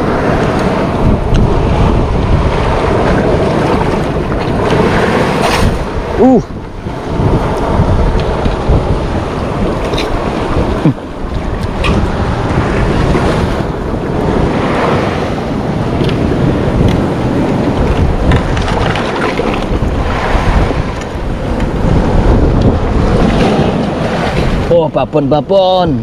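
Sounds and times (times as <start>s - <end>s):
sea waves on shore: 0.0s - 26.0s
wind buffeting microphone: 0.0s - 26.0s.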